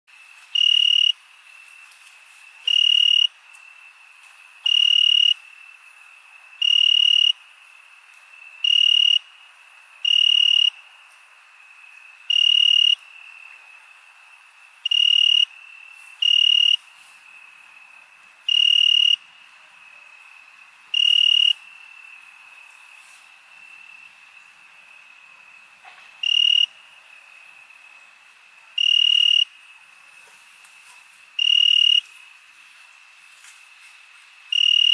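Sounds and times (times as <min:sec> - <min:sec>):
cricket chirp: 0:00.1 - 0:34.9
insects trilling: 0:00.1 - 0:34.9.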